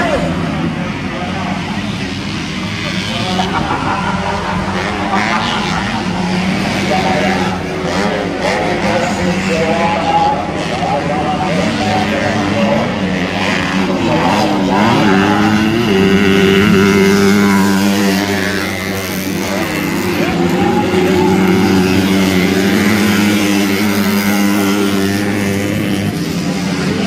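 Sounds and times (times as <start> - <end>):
motorcycle engines racing: 0.0 - 27.0.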